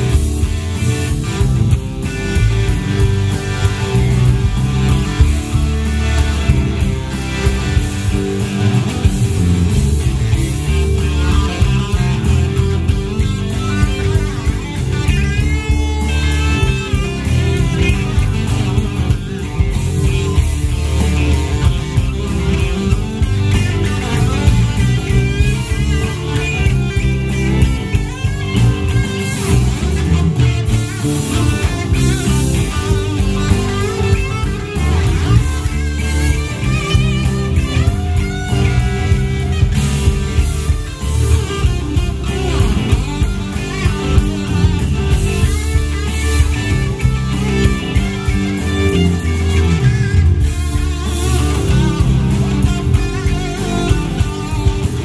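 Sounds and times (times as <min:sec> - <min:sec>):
live rock band instrumental: 0:00.0 - 0:55.0.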